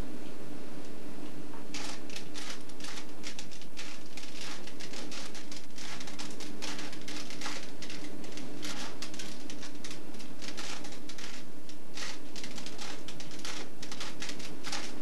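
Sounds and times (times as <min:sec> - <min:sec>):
plastic cube clicking and rattling: 0:01.7 - 0:15.0.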